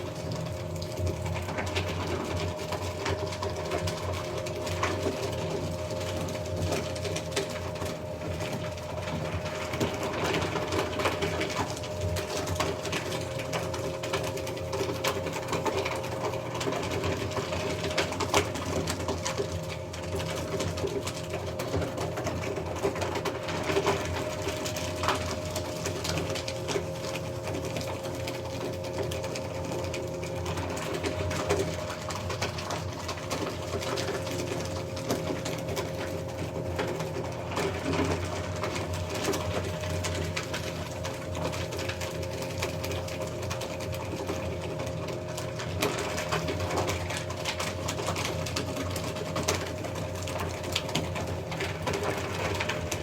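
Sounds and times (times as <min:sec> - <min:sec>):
paper crackling in shredder: 0:00.0 - 0:53.0
shredder motor humming: 0:00.0 - 0:53.0.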